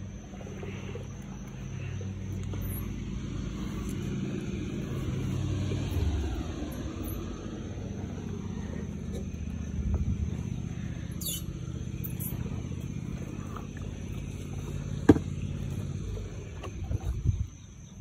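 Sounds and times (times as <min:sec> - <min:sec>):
lawn roller rumbling: 0:00.0 - 0:18.0.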